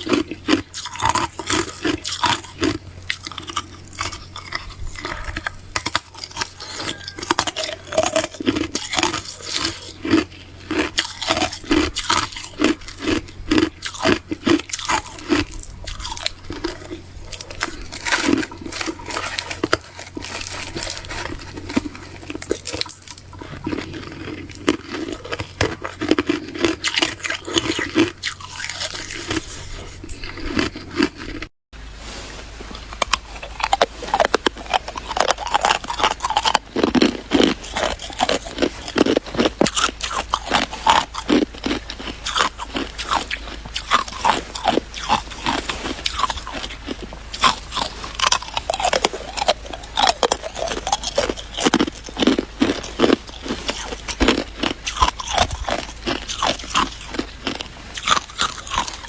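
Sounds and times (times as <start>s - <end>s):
ice being chewed: 0.0s - 31.5s, 32.5s - 59.0s.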